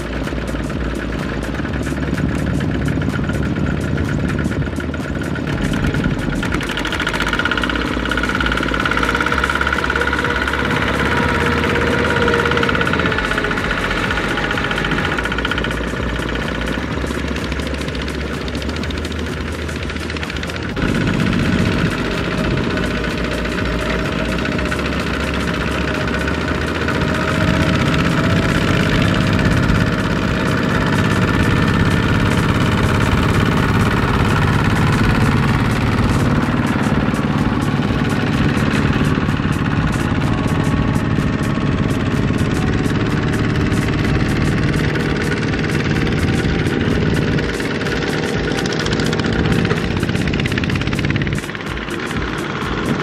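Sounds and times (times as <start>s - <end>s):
diesel engine chugging: 0.0s - 53.0s.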